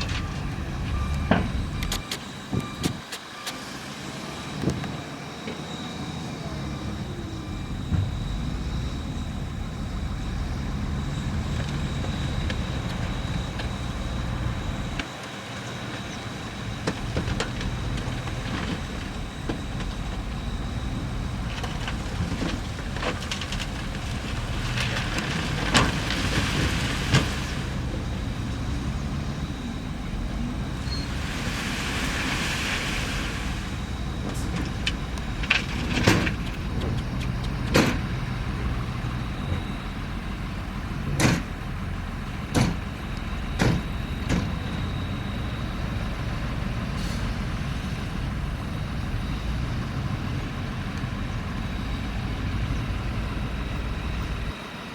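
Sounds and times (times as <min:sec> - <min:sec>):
heavy diesel machinery rumbling: 0:00.0 - 0:54.9.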